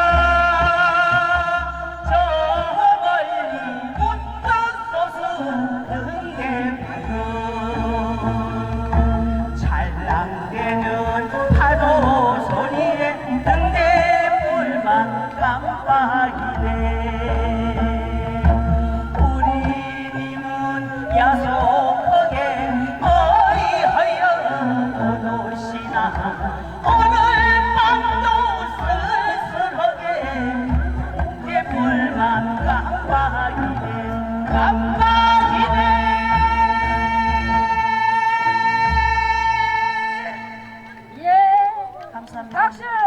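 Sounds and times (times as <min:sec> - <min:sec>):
woman singing with vibrato: 0:00.0 - 0:43.0.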